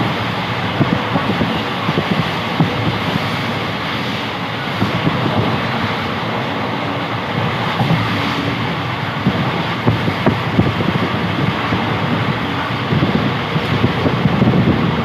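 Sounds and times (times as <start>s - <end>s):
train rumbling rush: 0.0s - 15.0s.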